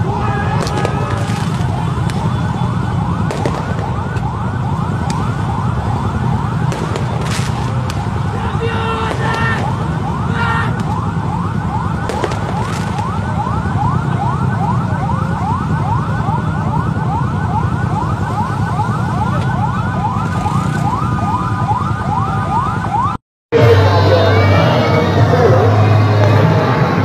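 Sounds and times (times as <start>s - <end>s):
electronic siren yelping: 0.0s - 27.0s
motorbike engines rumbling: 0.0s - 27.0s.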